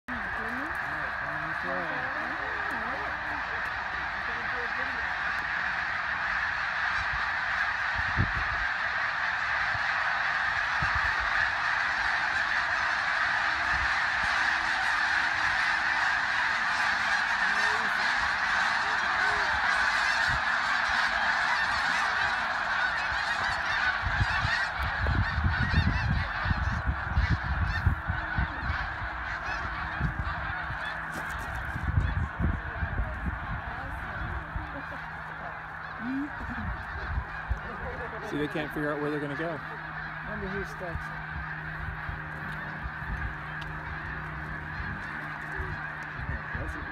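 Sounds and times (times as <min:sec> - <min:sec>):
geese honking: 0:00.1 - 0:46.9.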